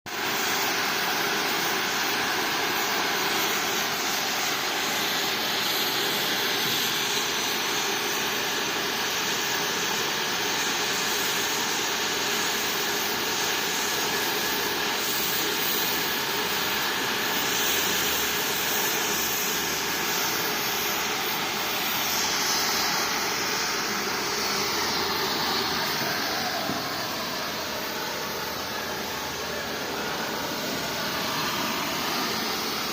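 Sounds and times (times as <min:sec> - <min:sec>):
welding arc hissing: 0:00.1 - 0:32.9.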